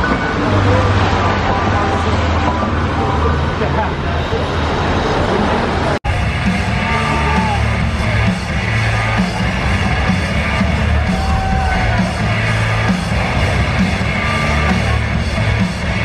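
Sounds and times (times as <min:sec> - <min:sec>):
rock music over sound system: 0:00.0 - 0:04.1, 0:06.0 - 0:16.0
crowd yelling and cheering: 0:00.0 - 0:16.0.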